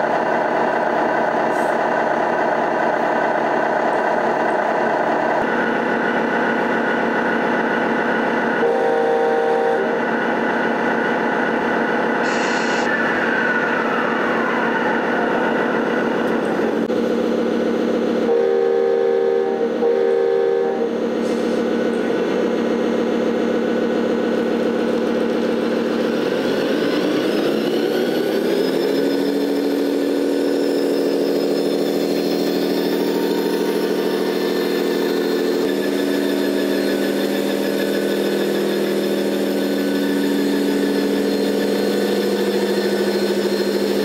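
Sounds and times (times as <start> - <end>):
simulated diesel truck engine: 0.0 - 44.0.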